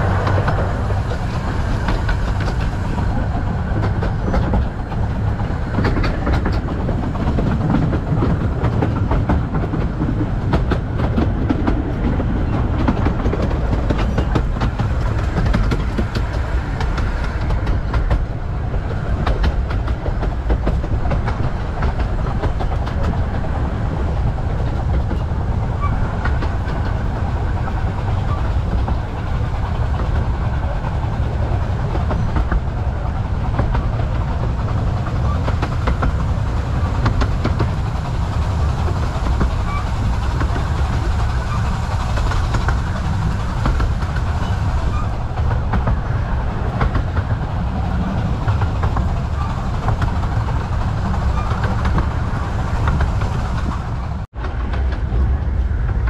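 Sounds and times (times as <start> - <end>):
train rumbling: 0.0 - 56.0
wheels clicking over rail joints: 0.0 - 56.0.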